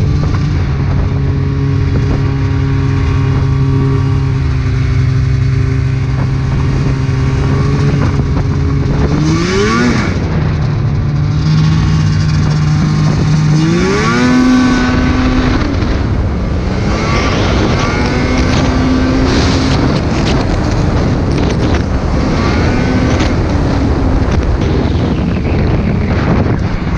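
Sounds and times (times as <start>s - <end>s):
snowmobile engine revving: 0.0s - 26.9s.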